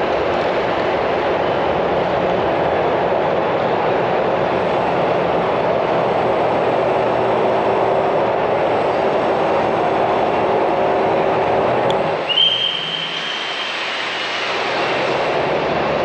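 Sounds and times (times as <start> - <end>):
cars idling and creeping: 0.0 - 16.0.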